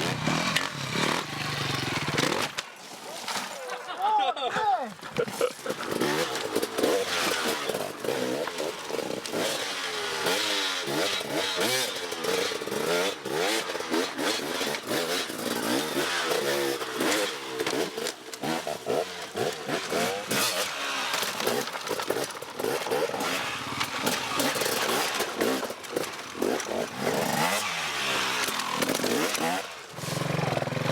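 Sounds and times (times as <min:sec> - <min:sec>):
motorcycle engine revving: 0:00.0 - 0:02.6, 0:05.8 - 0:30.9.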